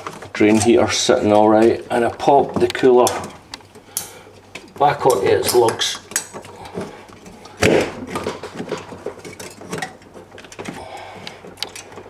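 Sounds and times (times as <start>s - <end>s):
light clicks and rattles: 0.0s - 12.0s.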